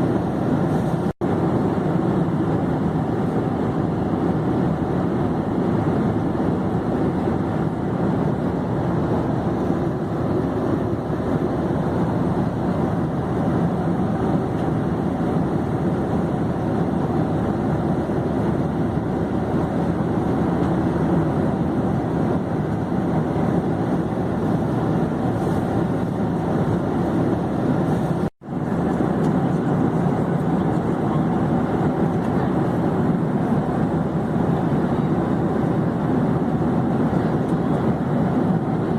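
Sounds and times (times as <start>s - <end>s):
airplane engine and air rumble: 0.0s - 38.9s.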